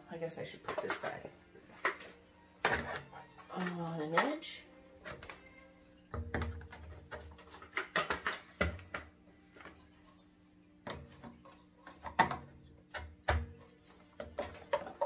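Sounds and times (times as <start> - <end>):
plastic attachments clicking and knocking: 0.6 - 5.5, 6.1 - 9.8, 10.9 - 15.0.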